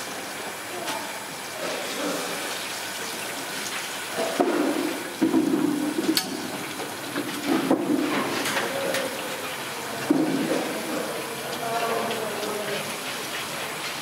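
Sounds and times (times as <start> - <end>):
oil sizzling: 0.0 - 14.0.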